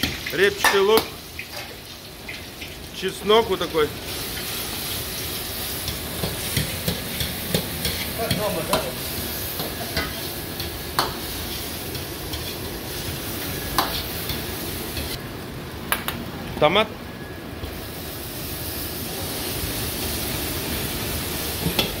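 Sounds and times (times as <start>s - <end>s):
food sizzling in oil: 0.0s - 15.2s, 17.2s - 22.0s.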